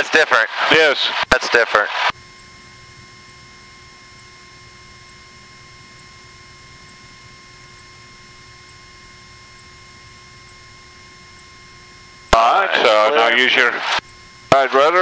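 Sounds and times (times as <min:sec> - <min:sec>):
electrical hum and hiss: 0:00.0 - 0:15.0
faint high whine: 0:00.0 - 0:15.0
fixed tones: 0:02.1 - 0:15.0.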